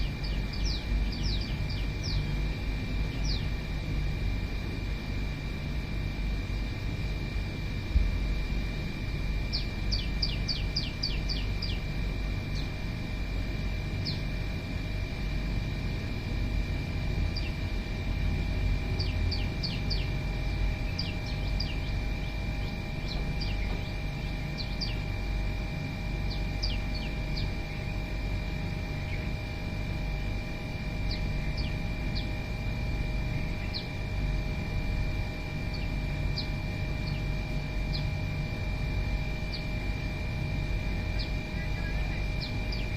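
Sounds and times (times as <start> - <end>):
small birds chirping: 0.0 - 4.3, 9.4 - 15.8, 16.7 - 42.9
constant high-pitched whine: 0.0 - 42.9
steady low rumble: 0.0 - 42.9.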